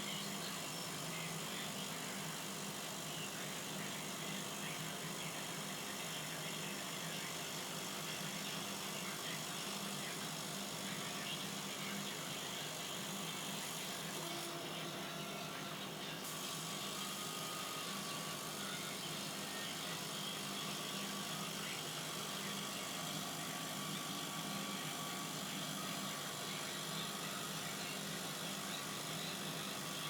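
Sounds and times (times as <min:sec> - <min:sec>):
laser cutting machine humming: 0:00.0 - 0:30.0.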